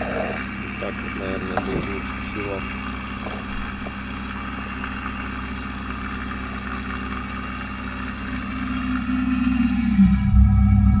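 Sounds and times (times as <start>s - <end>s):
vacuum pump motor humming: 0.0s - 11.0s.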